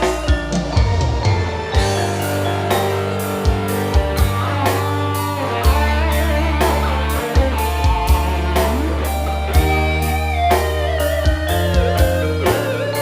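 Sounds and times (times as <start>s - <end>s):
bass line: 0.0s - 13.0s
drum beat: 0.0s - 13.0s
lead guitar melody: 0.0s - 13.0s.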